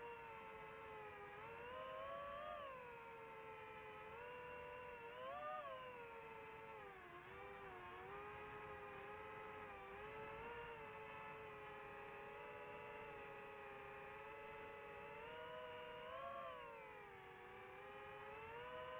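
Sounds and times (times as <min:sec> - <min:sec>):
drone motors whining: 0:00.0 - 0:18.9.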